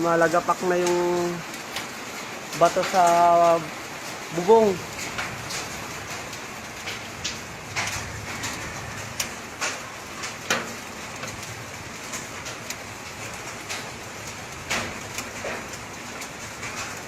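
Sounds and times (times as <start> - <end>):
rain patter on a roof: 0.0 - 17.0
stones ticking on a roof: 0.0 - 17.0.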